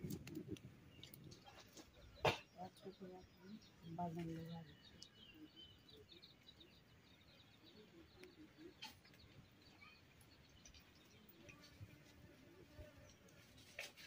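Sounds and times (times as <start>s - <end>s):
distant bird chirps: 0.1s - 12.0s.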